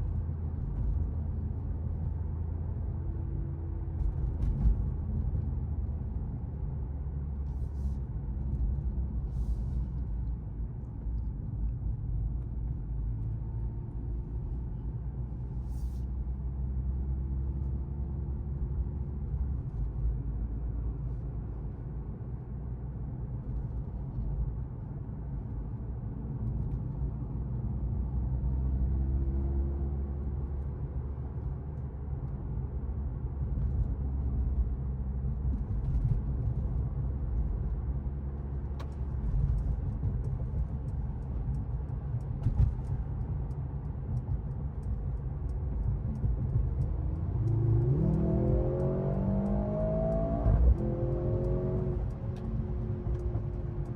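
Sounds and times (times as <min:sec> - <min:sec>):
car engine and tyres cruising: 0:00.0 - 0:53.9.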